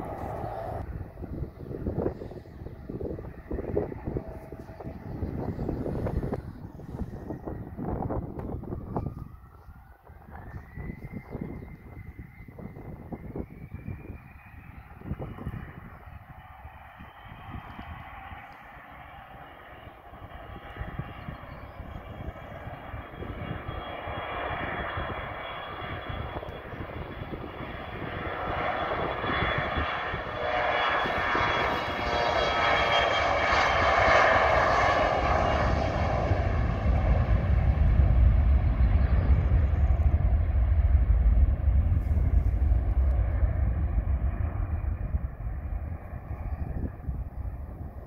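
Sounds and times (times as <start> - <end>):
deep jet exhaust rumble: 0.0 - 48.0
jet engines whining on takeoff: 0.0 - 48.0.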